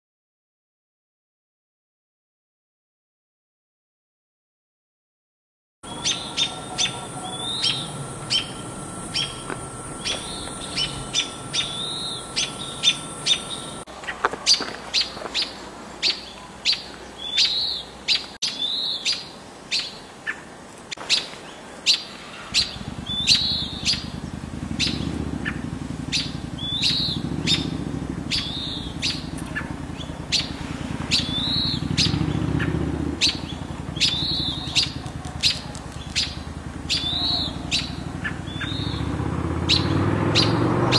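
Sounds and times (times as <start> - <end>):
songbirds sharp alarm chirping: 5.8 - 40.9.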